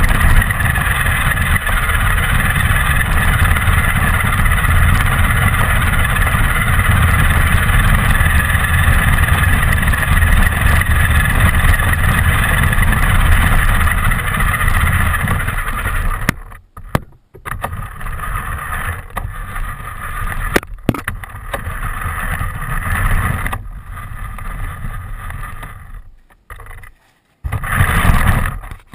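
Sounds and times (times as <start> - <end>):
radio-controlled car motor: 0.0 - 16.6, 17.5 - 26.8, 27.5 - 28.9
rumble of running gear: 0.0 - 28.9.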